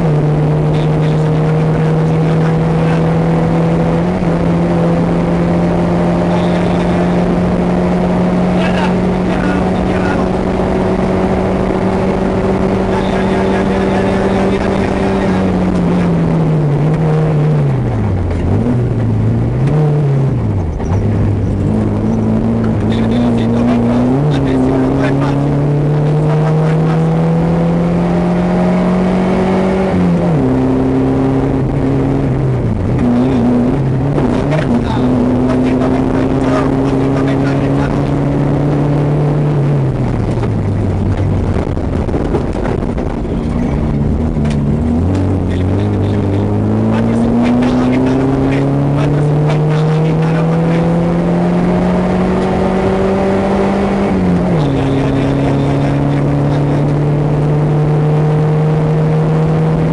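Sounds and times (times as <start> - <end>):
tyres rumbling on dirt road: 0.0 - 59.9
vehicle engine running: 0.0 - 59.9.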